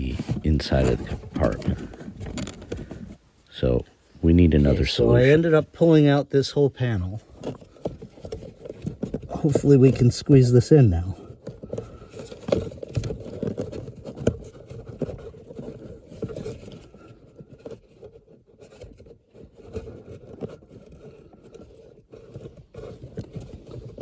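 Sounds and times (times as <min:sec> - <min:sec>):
filter scraping against plastic: 0:00.0 - 0:24.0.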